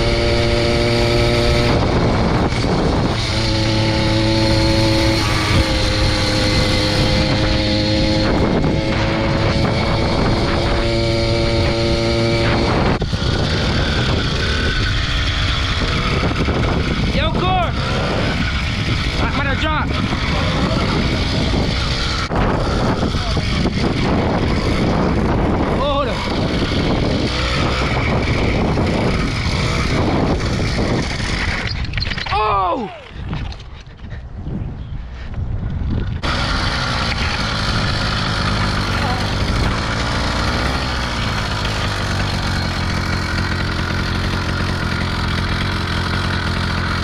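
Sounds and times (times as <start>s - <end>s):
two-stroke engine running: 0.0s - 32.0s, 36.2s - 47.0s
wind on microphone: 0.0s - 47.0s.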